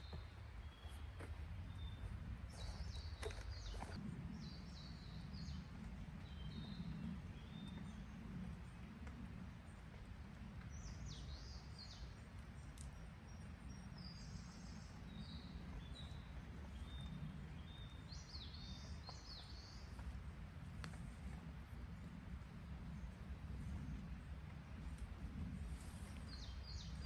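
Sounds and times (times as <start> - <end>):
songbird singing: 0.0 - 8.8, 10.6 - 20.1, 22.8 - 27.0
low outdoor rumble: 0.0 - 27.0.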